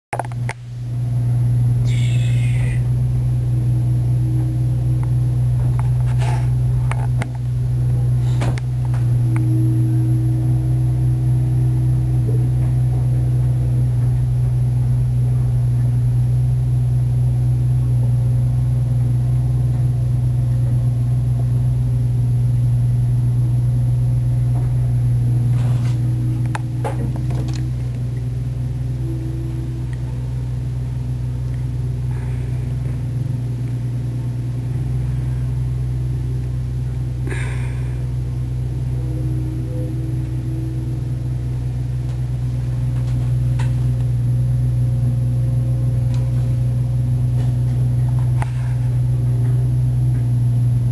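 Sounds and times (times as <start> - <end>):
bulldozer diesel engines droning: 0.2 - 50.9.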